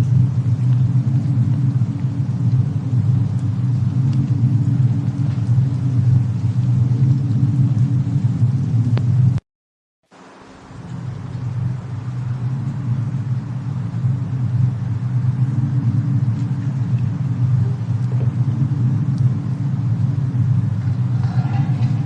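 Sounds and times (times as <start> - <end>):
faint fire crackles: 0.0 - 9.4, 10.1 - 22.0
low rumble of snowstorm ambience: 0.0 - 9.4, 10.2 - 22.0.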